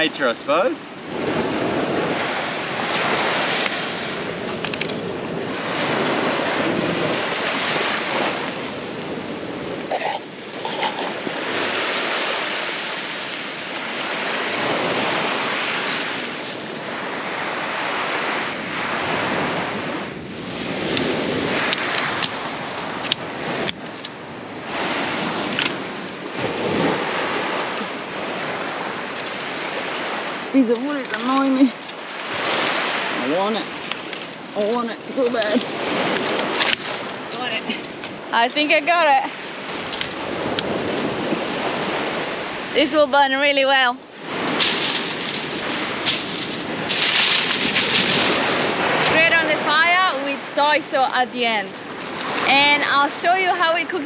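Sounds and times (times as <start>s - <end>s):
small waves washing on beach: 0.0s - 54.0s
wind on microphone: 0.0s - 54.0s.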